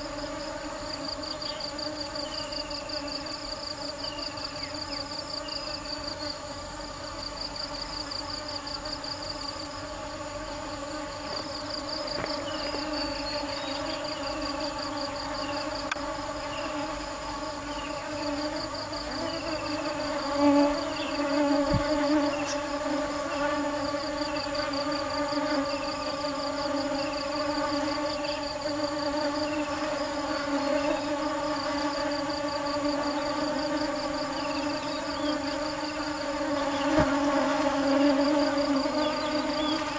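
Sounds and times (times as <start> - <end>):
fast insect trill: 0.0 - 39.9
honey bees buzzing: 0.0 - 39.9.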